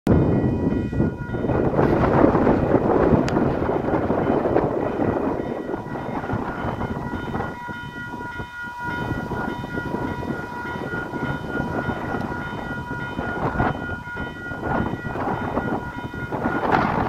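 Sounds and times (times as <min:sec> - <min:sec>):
level crossing warning bells: 0:00.1 - 0:17.0
wind buffeting microphone: 0:00.1 - 0:17.0.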